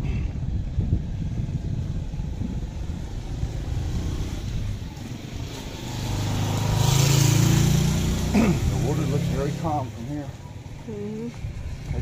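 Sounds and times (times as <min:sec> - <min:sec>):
low rumbling: 0:00.0 - 0:12.0
vehicle engine approaching: 0:00.0 - 0:12.0.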